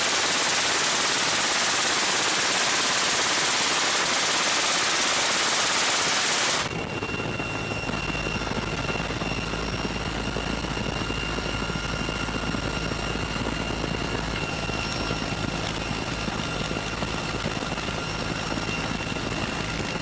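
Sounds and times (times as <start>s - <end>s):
helicopter rotor throb: 0.0s - 20.0s
helicopter turbine whine: 0.0s - 20.0s.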